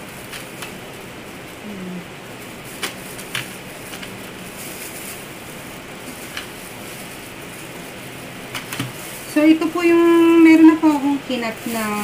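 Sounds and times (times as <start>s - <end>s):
steady hiss of rain: 0.0s - 12.0s.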